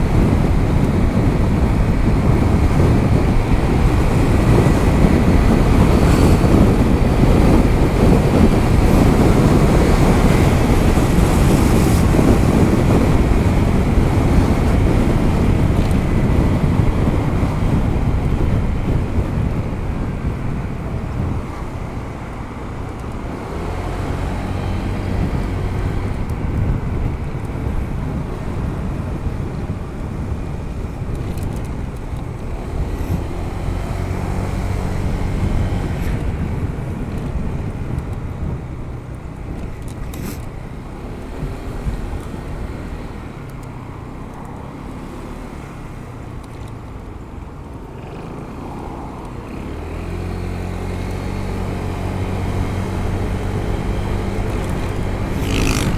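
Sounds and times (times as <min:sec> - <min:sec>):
road noise: 0:00.0 - 0:55.9
scooter engine: 0:00.0 - 0:55.9
wind buffeting microphone: 0:00.0 - 0:55.9.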